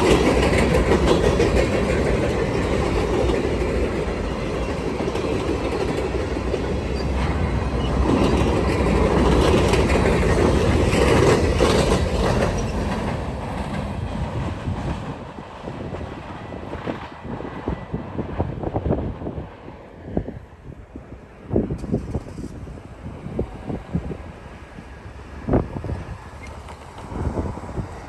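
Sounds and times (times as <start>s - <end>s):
wheels clicking over rail joints: 0.0s - 17.9s, 21.5s - 28.0s
freight train cars rolling past: 0.0s - 28.0s.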